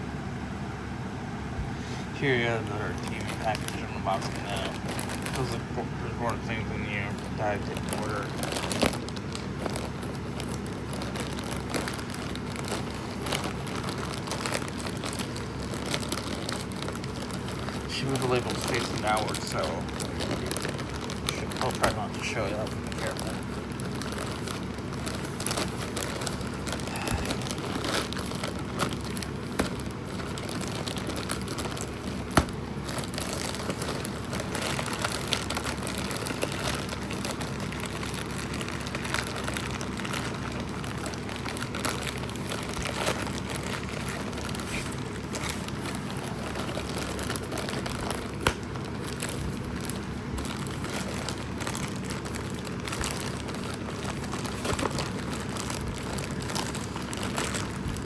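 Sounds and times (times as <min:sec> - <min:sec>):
plastic packaging crinkling: 0:02.1 - 0:58.0.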